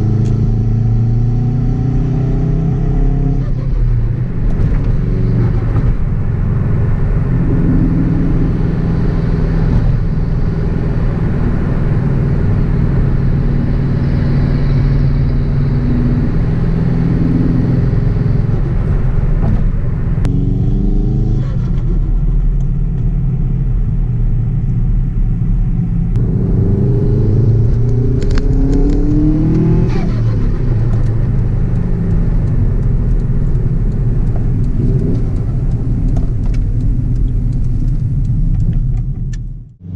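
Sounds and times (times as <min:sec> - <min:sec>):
turbocharged car engine running: 0:03.2 - 0:39.9.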